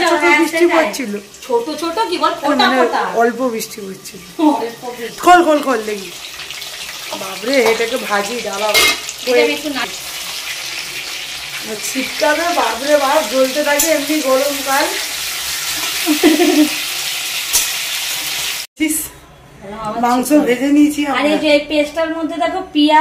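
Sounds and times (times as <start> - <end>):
chicken sizzling in hot oil: 0.0 - 18.7.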